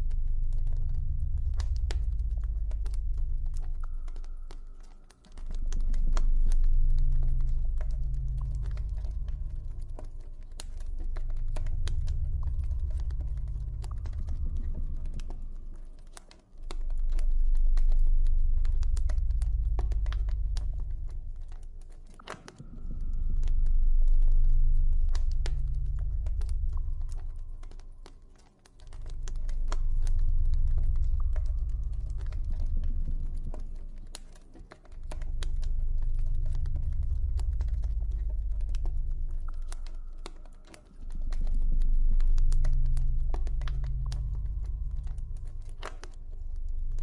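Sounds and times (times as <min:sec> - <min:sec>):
deep low ambient drone: 0:00.0 - 0:47.0.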